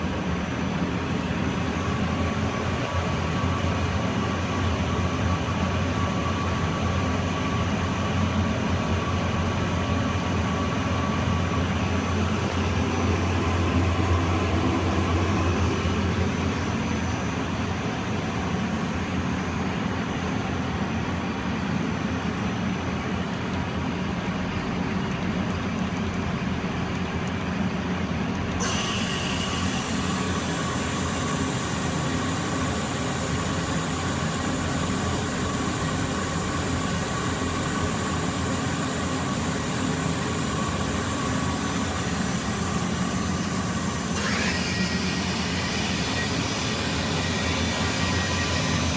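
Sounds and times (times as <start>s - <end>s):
machine hum: 0.0s - 48.9s.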